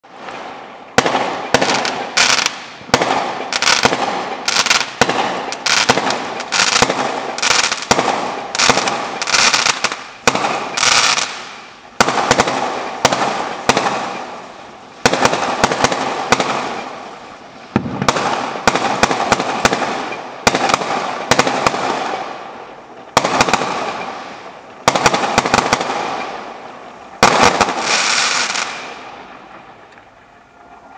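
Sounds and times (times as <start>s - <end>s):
crackling firework tails: 0.0s - 30.9s
fireworks reports: 0.0s - 30.9s.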